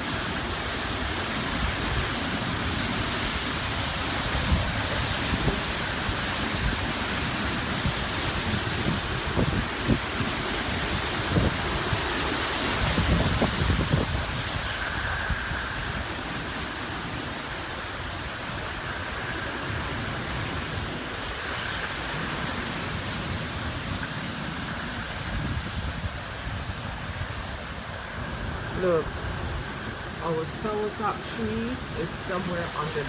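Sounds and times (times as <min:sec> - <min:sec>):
hurricane wind and rain: 0:00.0 - 0:33.0.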